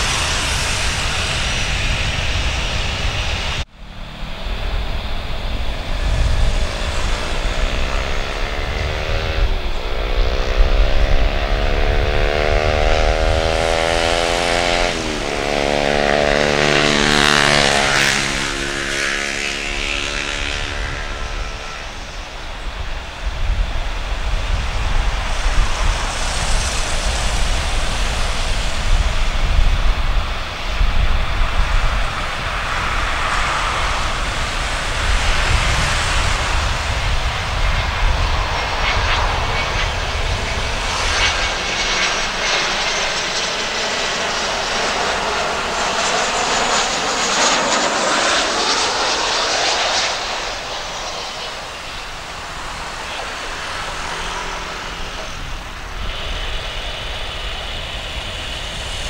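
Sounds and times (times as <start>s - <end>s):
jet engines whining overhead: 0.0s - 59.0s.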